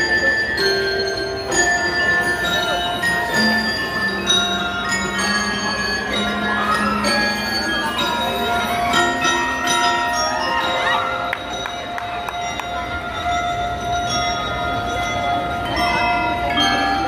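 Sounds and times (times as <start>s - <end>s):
bell lyre melody: 0.0s - 17.0s.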